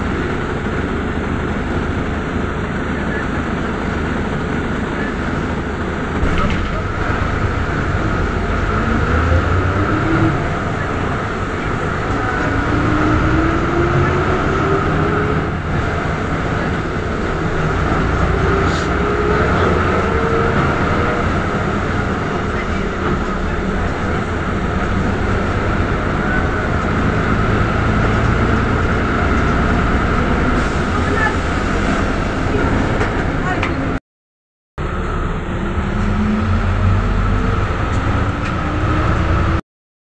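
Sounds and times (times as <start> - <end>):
rising engine whine: 0.0 - 33.0, 34.8 - 39.6
bus diesel engine: 0.0 - 34.0, 34.8 - 39.6
road rumble: 0.0 - 34.0, 34.8 - 39.6.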